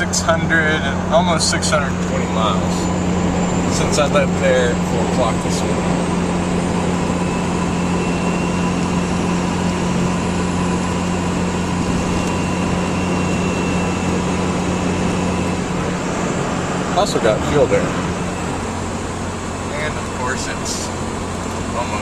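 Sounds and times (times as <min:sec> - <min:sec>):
road and tyre noise: 0:00.0 - 0:22.0
truck engine drone: 0:00.0 - 0:22.0.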